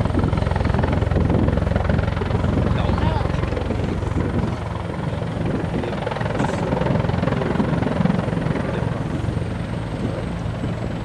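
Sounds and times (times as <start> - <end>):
helicopter rotor chopping: 0.0 - 11.0
turbine noise: 0.0 - 11.0.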